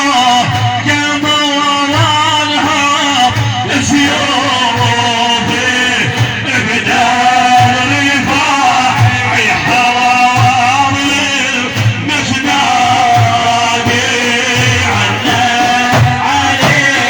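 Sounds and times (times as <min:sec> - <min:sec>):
man singing: 0:00.0 - 0:17.0
steady drum beat: 0:00.0 - 0:17.0.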